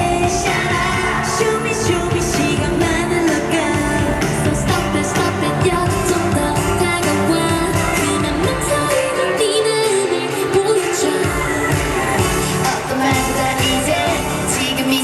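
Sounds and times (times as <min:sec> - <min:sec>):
dance-pop song with singing: 0:00.0 - 0:15.0.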